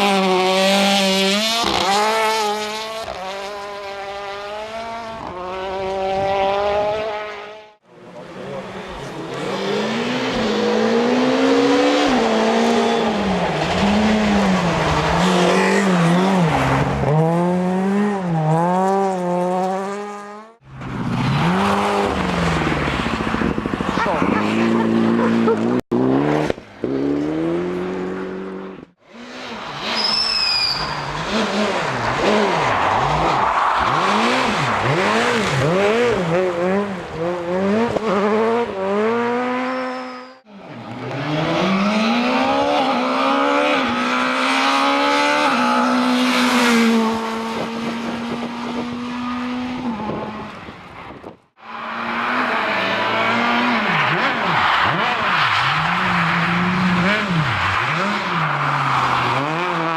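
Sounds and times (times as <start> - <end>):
rally car engines at full throttle: 0.0 - 59.9.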